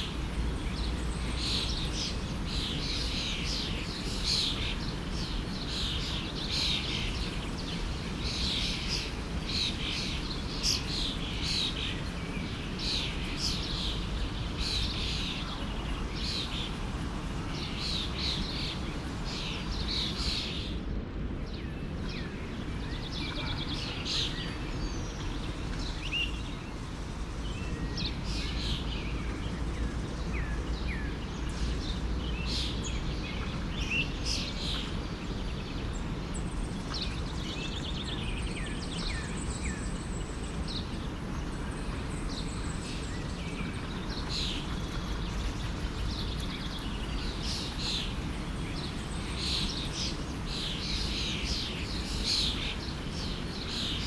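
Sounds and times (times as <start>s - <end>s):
stream running: 0.0s - 20.7s, 21.4s - 54.0s
birds chirping: 0.0s - 20.8s, 21.4s - 54.0s.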